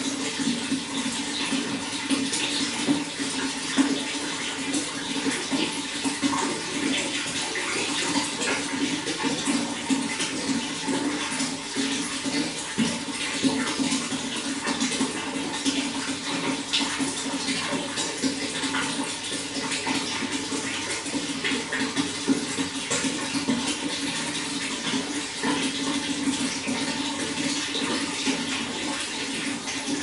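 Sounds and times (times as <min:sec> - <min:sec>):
running water splashing: 0:00.0 - 0:30.0.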